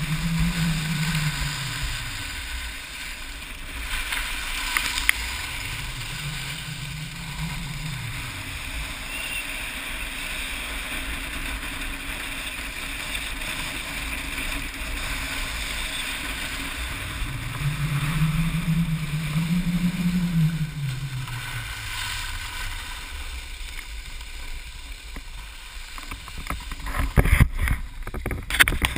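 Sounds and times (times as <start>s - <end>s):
wind on microphone: 0.0s - 23.8s, 26.0s - 28.9s
low hum: 0.0s - 28.9s
skis gliding over snow: 0.0s - 28.9s.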